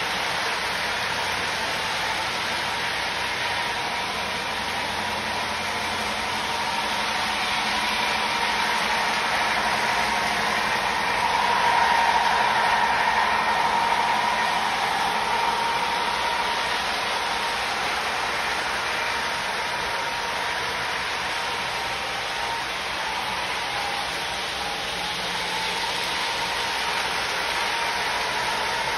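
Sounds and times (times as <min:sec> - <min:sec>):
model train wheels on track: 0:00.0 - 0:28.9
motor hum: 0:00.0 - 0:28.9.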